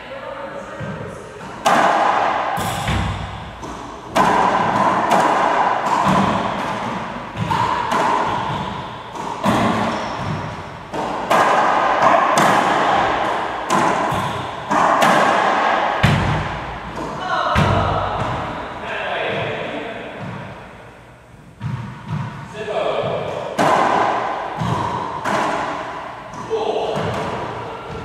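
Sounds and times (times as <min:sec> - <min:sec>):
racquetball hitting racquets and walls: 0:00.7 - 0:28.0.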